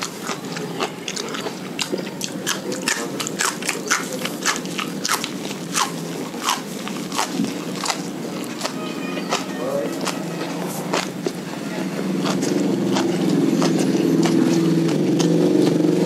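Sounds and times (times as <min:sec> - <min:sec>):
person chewing leaves: 0:00.0 - 0:16.0
sharp mouth clicks: 0:00.0 - 0:16.0.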